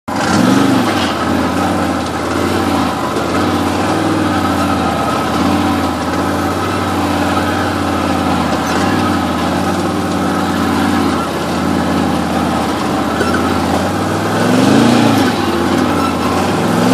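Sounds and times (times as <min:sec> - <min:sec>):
vehicle engine idling and revving: 0:00.0 - 0:16.9.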